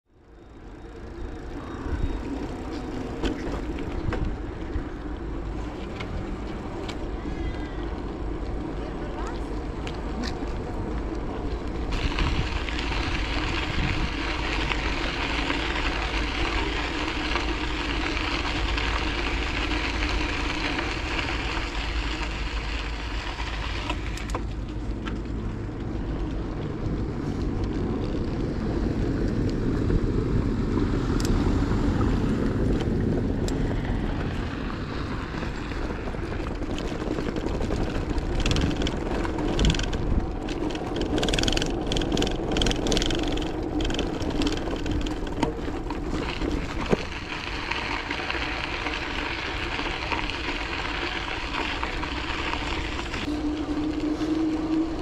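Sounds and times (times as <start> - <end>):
bicycle tyres rolling on path: 0.1 - 55.0
wind buffeting microphone: 1.3 - 24.2, 24.8 - 55.0.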